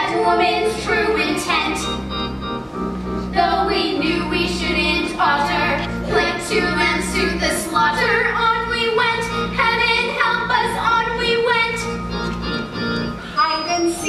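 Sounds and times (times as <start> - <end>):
steady bass: 0.0 - 13.2
instrumental accompaniment: 0.0 - 14.0.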